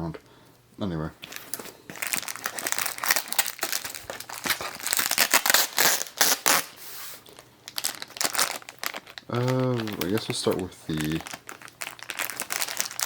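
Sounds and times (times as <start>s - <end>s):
plastic packaging crinkling: 1.2s - 13.0s.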